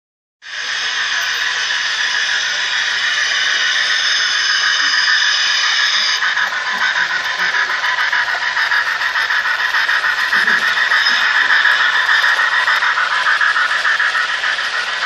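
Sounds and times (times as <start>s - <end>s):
model train steam sound effect: 0.4s - 15.0s.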